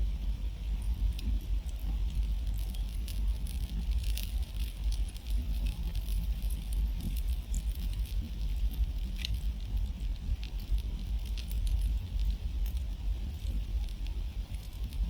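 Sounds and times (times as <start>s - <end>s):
low steady rumble: 0.0s - 15.0s
campfire crackling: 0.2s - 15.0s.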